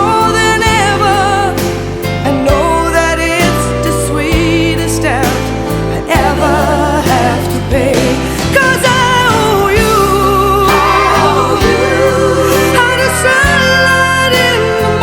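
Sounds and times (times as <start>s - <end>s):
slow pop ballad: 0.0s - 15.0s.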